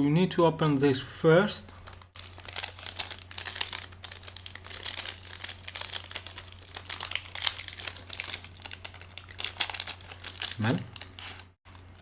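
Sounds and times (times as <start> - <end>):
packaging crinkling and rustling: 1.8 - 12.0.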